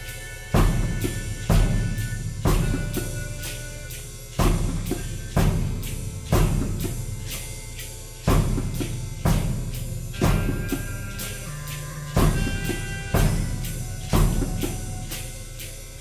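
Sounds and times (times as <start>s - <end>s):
slow drum kit beat: 0.0s - 16.0s
sustained tones: 0.0s - 16.0s.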